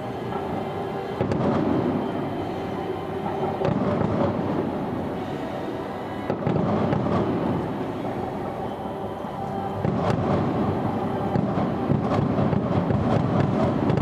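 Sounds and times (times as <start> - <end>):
distant fireworks bursting: 0.0 - 14.0.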